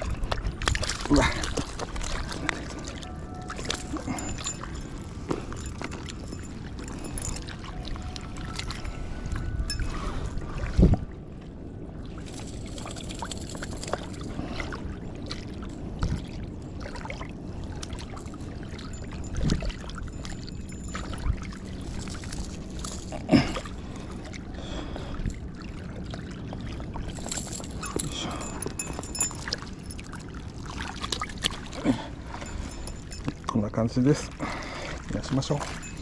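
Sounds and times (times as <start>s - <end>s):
water lapping: 0.0s - 36.0s.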